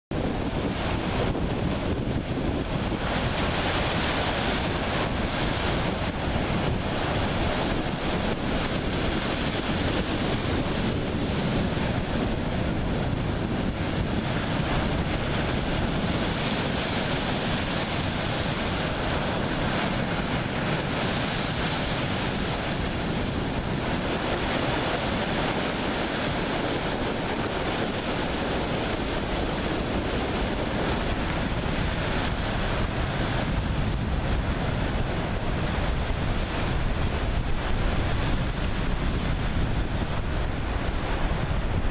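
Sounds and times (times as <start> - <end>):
waves breaking on shore: 0.1 - 41.9
wind buffeting microphone: 0.1 - 41.9.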